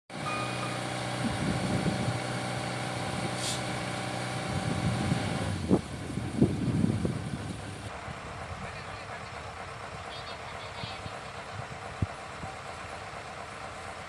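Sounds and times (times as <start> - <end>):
diesel engine running: 0.1 - 14.0.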